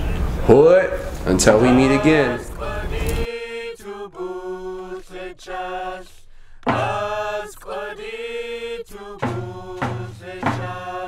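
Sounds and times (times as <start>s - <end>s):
chanted singing: 1.4s - 11.0s.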